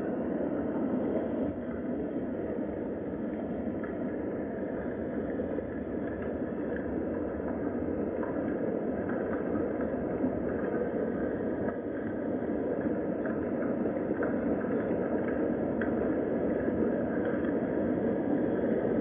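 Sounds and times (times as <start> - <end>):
steady rain: 0.0 - 19.0
faint drip-like ticks: 3.3 - 18.9.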